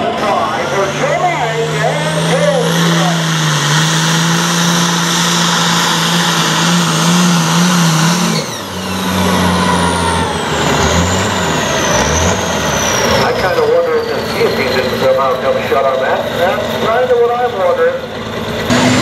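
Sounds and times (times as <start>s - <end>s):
tractor diesel engine at full throttle: 0.0s - 19.0s.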